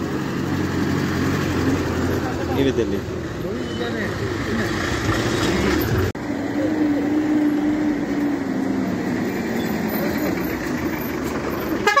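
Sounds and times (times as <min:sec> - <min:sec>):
bus driving past: 0:00.0 - 0:12.0
tyre and road noise: 0:00.0 - 0:12.0.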